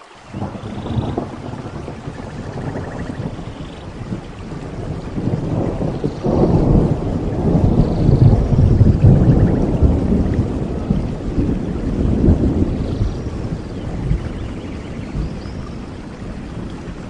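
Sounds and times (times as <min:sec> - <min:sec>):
steady rain: 0:00.0 - 0:17.0
thunder rolling: 0:00.3 - 0:17.0.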